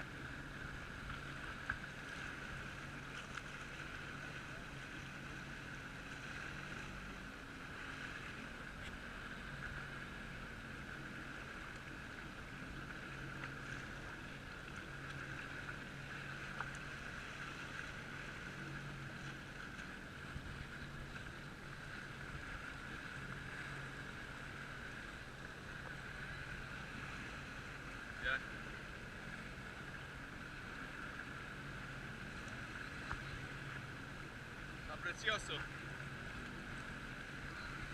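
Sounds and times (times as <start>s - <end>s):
jet ski engine hum: 0.0s - 37.9s.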